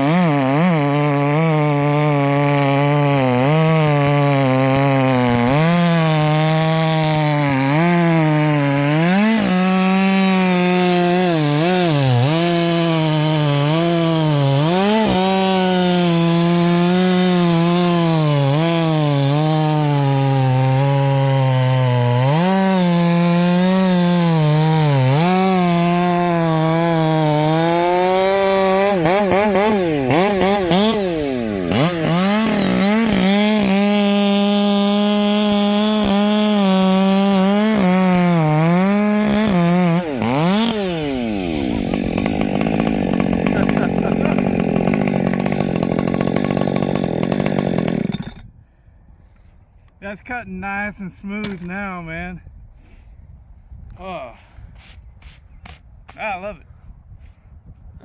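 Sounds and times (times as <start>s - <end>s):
chainsaw cutting wood: 0.0s - 48.6s, 51.2s - 51.9s.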